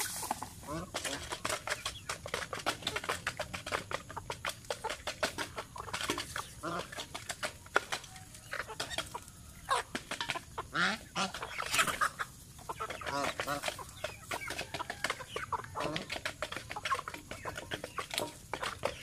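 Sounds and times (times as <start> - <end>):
bills pecking at metal bowl: 0.0 - 19.0
chicken clucks: 0.0 - 19.0.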